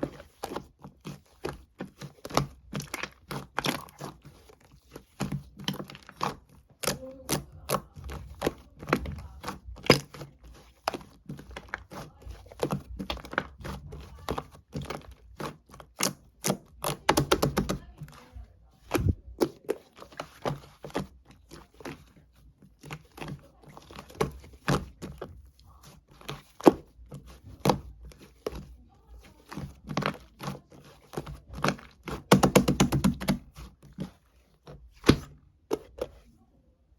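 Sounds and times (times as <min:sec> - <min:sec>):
rapid crackling of slime: 0:00.0 - 0:36.9.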